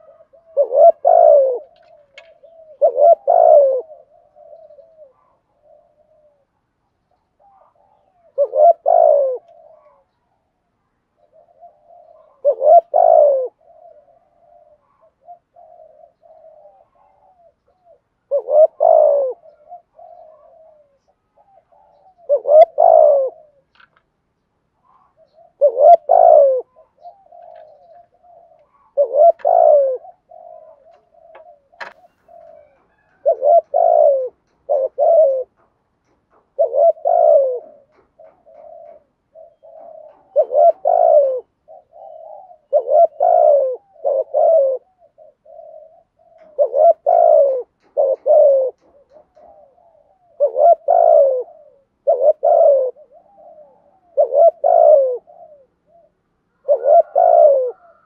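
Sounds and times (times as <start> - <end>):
dove cooing: 0.0 - 24.0, 24.7 - 58.0.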